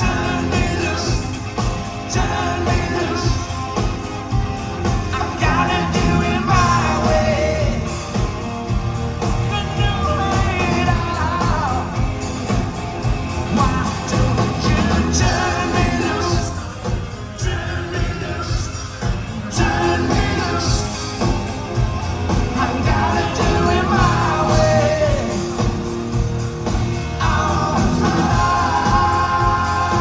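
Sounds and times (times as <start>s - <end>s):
man singing lead: 0.0s - 8.5s, 9.2s - 30.0s
live rock band: 0.0s - 30.0s.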